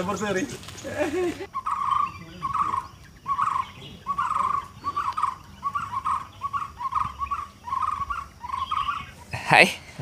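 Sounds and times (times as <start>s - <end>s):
animal calling: 0.8s - 9.6s.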